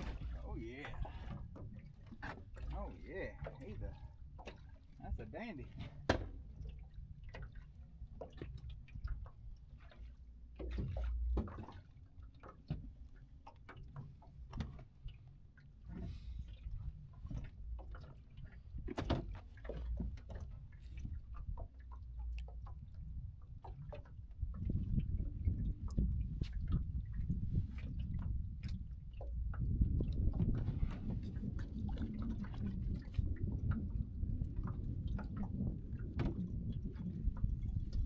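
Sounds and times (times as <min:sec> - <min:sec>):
wind rumble on microphone: 0:00.0 - 0:11.7, 0:15.8 - 0:38.0
water lapping against boat hull: 0:00.0 - 0:38.0.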